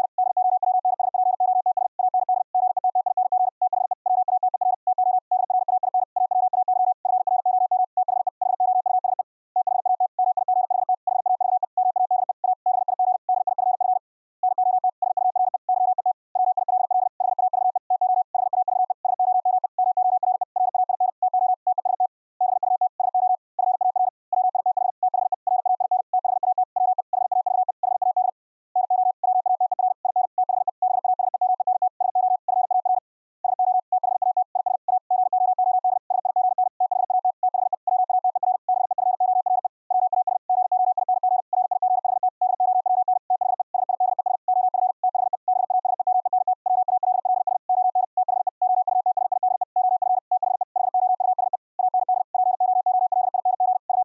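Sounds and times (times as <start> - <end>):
high-speed morse code tone: 0.0 - 14.1, 14.7 - 54.0.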